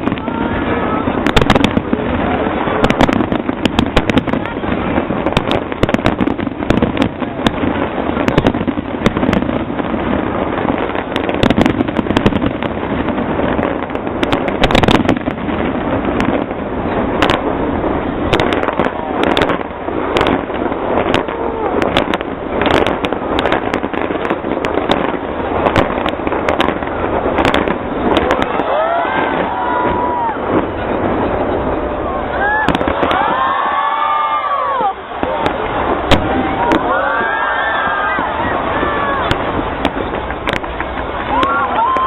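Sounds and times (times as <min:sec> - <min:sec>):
fireworks bangs: 0:00.0 - 0:42.0
fireworks crackling rumble: 0:00.0 - 0:42.0.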